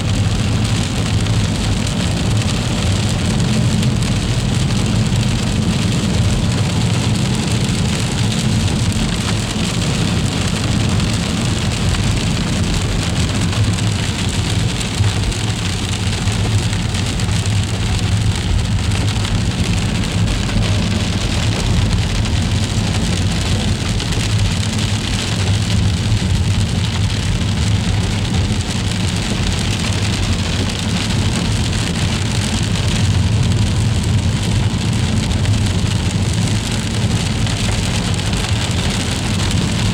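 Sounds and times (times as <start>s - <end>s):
constant low rumble: 0.0s - 39.9s
freezing rain pattering: 0.0s - 39.9s.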